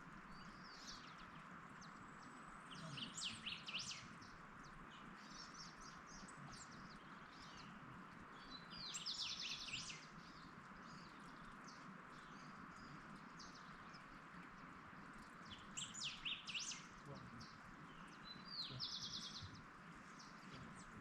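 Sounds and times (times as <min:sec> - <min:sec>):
faint background hiss: 0:00.0 - 0:21.0
birds chirping: 0:00.3 - 0:21.0.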